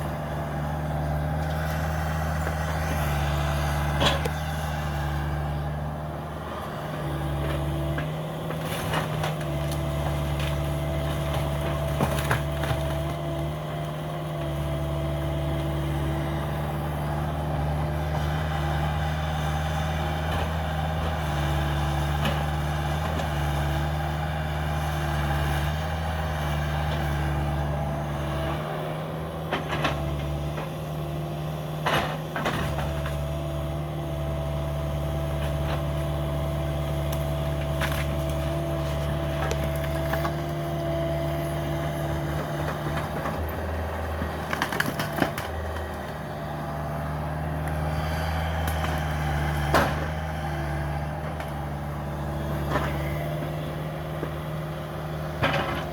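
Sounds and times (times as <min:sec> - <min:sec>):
excavator diesel engine running: 0:00.0 - 0:55.9
wood cracking and splintering: 0:07.0 - 0:28.5, 0:29.3 - 0:55.9.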